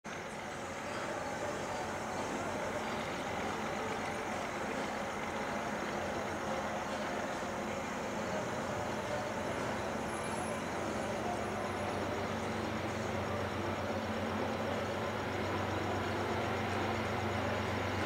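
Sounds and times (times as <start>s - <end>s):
distant diesel locomotives rumbling: 0.1s - 18.0s.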